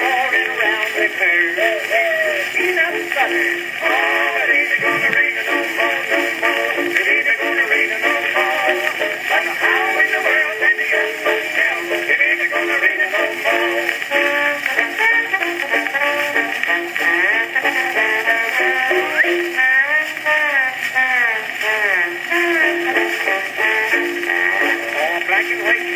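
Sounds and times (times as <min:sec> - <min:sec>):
man singing on phonograph record: 0:00.0 - 0:25.9.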